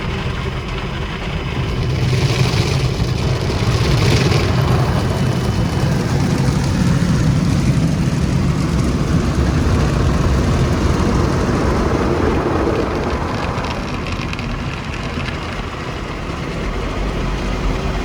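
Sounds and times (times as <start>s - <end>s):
car wash machinery rumbling: 0.0s - 18.0s.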